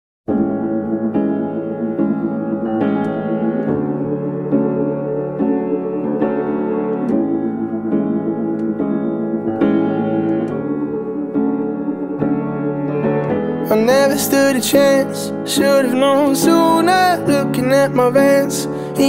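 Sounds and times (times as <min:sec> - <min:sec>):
pop song piano chords: 0:00.3 - 0:19.0.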